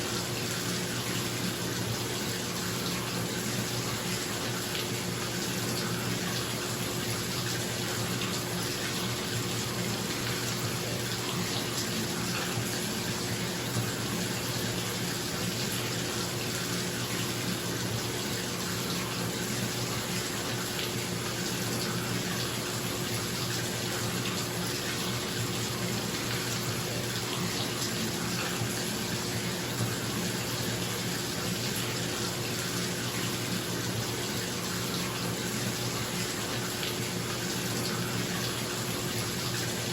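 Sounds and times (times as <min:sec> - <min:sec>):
tap water running into bathtub: 0:00.0 - 0:39.9.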